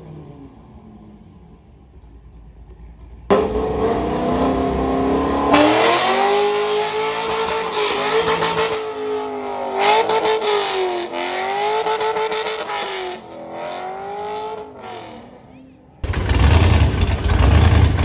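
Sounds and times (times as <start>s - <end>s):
car engine at full throttle: 0.0s - 15.4s, 16.0s - 18.0s.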